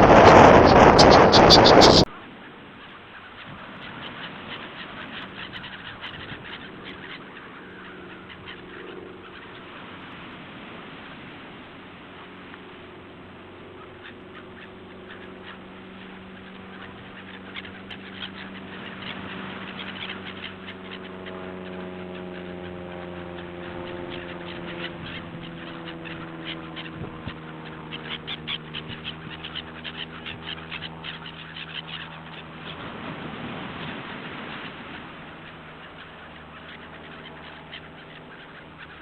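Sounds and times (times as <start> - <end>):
gulls calling: 0.0 - 39.0
low drifting hum: 0.0 - 39.0.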